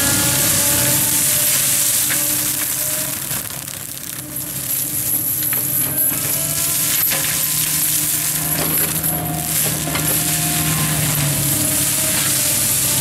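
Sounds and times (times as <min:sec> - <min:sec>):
mulcher hum and high whine: 0:00.0 - 0:13.0.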